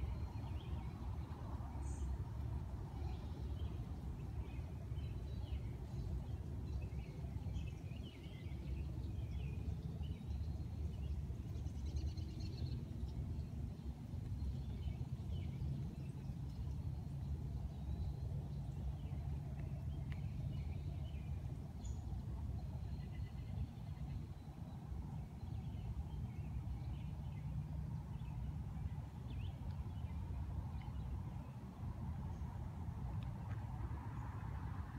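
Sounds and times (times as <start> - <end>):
songbirds chirping and twittering: 0.0 - 34.9.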